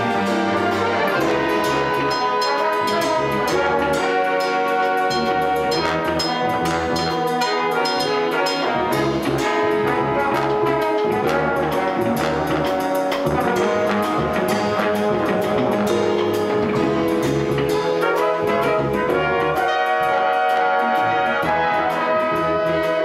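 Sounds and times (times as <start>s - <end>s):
jazz big band playing: 0.0s - 23.0s.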